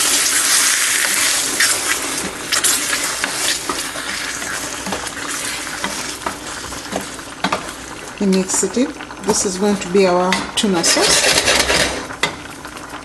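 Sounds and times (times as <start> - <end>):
sauce sizzling in frying pan: 0.0 - 13.0.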